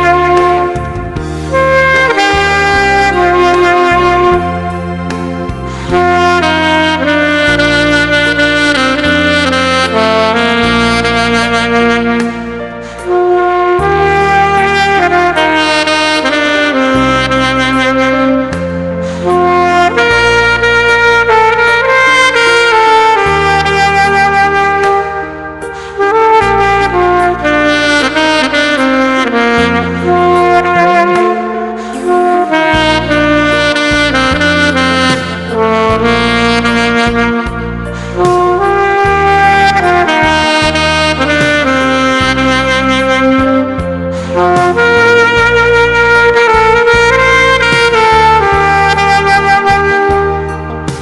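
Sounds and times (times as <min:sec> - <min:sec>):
backing track bass notes: 0:00.0 - 0:51.0
saxophone slow melody: 0:00.0 - 0:51.0.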